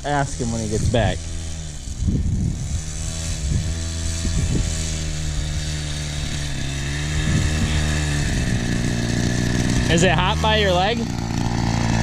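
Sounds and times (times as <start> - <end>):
two-stroke mini bike engine running: 0.0 - 12.0.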